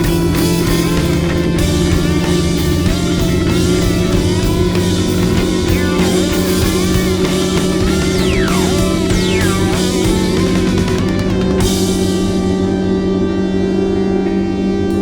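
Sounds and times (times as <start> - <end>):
rock music with distorted guitar: 0.0 - 15.0.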